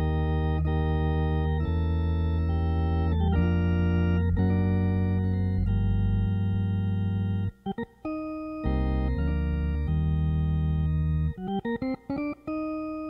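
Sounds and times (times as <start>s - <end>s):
organ playing chords: 0.0s - 13.0s.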